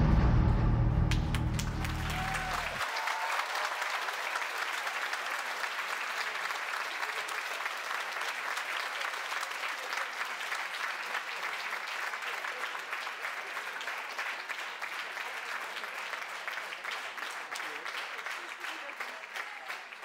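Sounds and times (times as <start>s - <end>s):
audience applauding: 1.1s - 20.0s.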